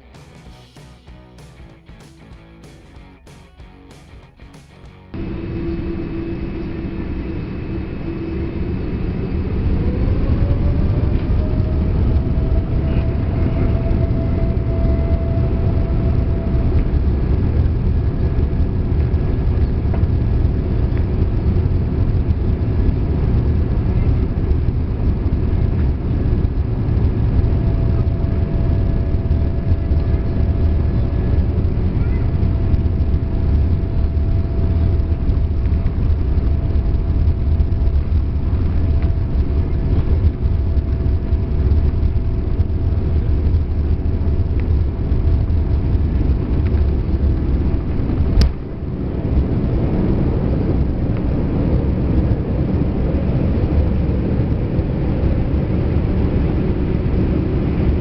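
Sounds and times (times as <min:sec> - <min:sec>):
faint steady whine: 0:00.0 - 0:58.0
low cabin rumble: 0:00.0 - 0:58.0.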